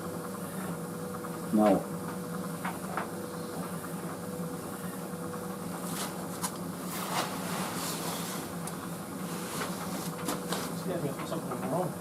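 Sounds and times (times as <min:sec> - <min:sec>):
tumble dryer humming: 0:00.0 - 0:12.0.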